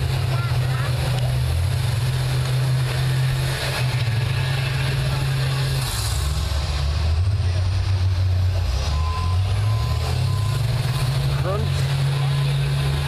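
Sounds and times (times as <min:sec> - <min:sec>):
bus engines droning: 0:00.0 - 0:13.0.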